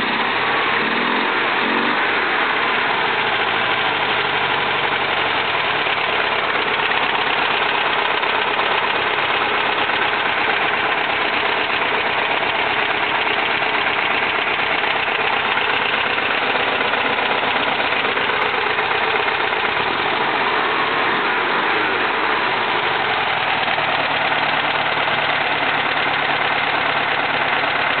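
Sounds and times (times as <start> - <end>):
misfiring engine idling: 0.0 - 28.0.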